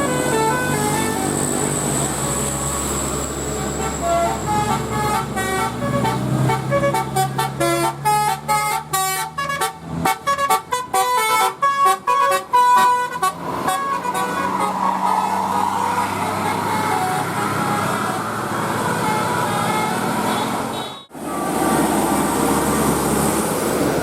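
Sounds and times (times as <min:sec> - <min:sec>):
multi-tone musical bus horn: 0:00.0 - 0:21.9
bus engine running: 0:00.0 - 0:24.0.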